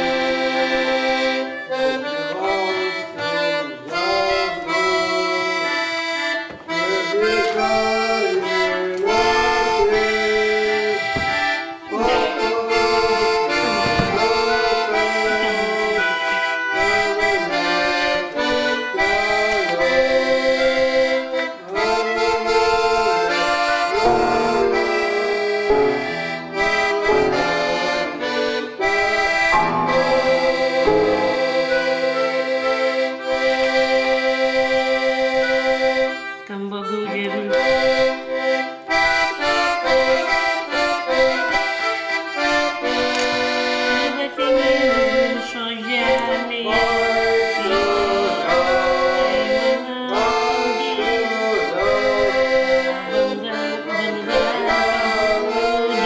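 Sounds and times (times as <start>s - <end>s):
accordion playing a tune: 0.0s - 56.0s.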